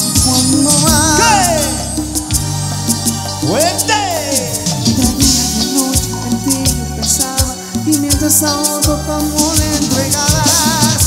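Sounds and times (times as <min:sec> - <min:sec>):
cumbia band playing: 0:00.0 - 0:11.0.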